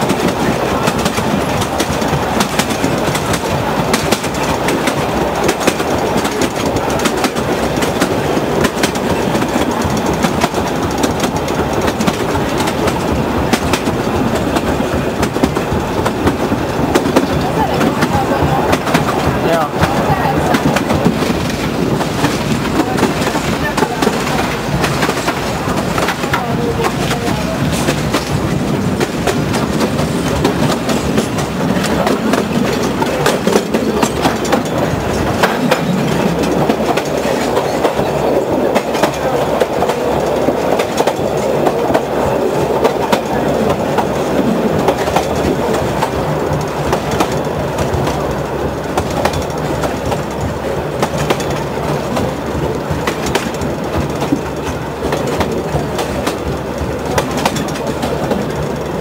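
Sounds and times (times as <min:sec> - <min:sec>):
train wheels rumbling on track: 0:00.0 - 0:59.0
wheels clicking over rail joints: 0:00.0 - 0:59.0.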